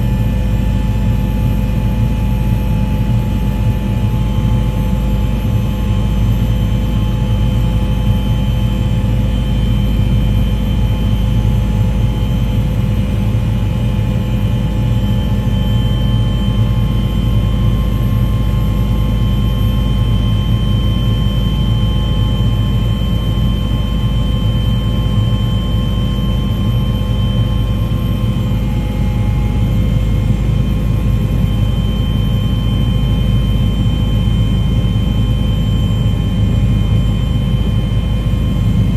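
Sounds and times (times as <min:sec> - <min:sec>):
aircraft engine droning: 0:00.0 - 0:38.9.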